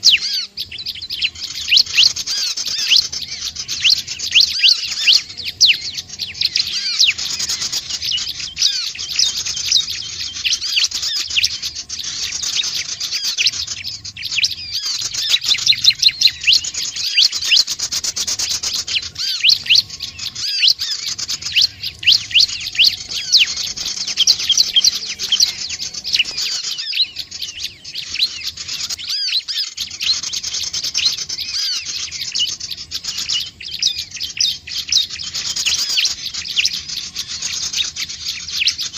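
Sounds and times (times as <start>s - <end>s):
bird song with high chirps: 0.0s - 38.9s.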